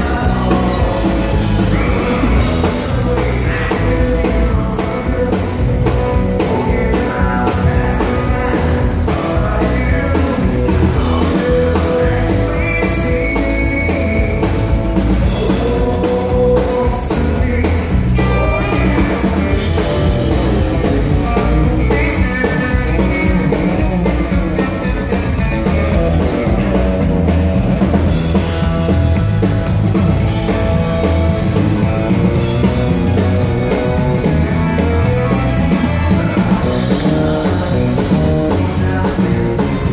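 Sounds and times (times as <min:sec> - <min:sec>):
live country band playing: 0:00.0 - 0:39.9.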